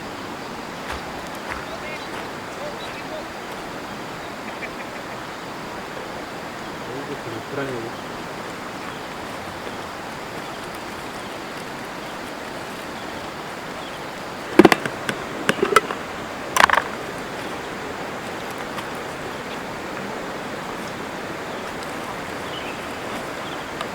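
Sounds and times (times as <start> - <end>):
river flowing: 0.0 - 23.9.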